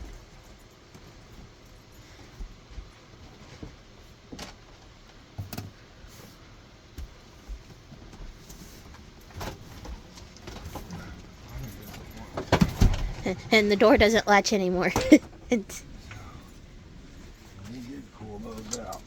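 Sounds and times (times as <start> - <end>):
steady background hiss: 0.1 - 19.0.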